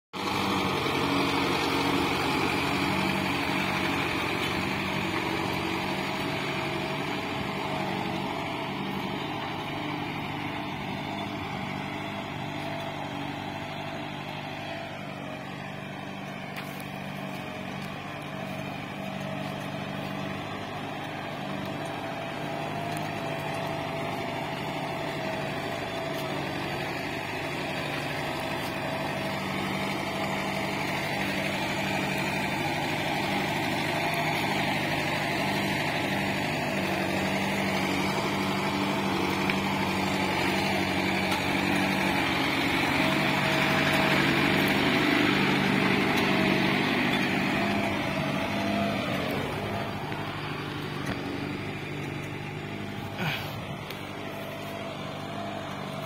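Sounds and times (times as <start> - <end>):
tractor diesel engine under load: 0.1 - 56.0.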